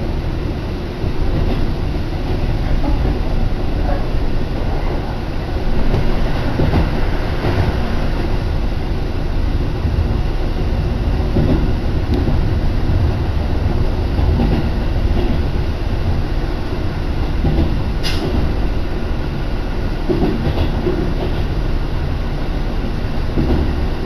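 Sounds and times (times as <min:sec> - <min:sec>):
train clatters: 0:00.0 - 0:24.0
train wheels rumbling on rails: 0:00.0 - 0:24.0.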